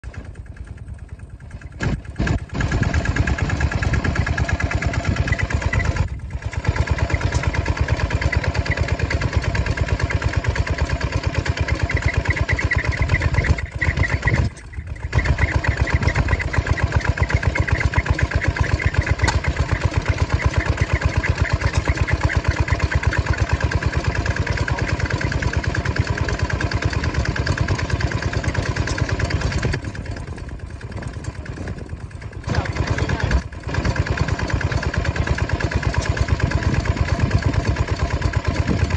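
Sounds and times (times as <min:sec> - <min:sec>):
small diesel engine running: 0:00.0 - 0:38.9.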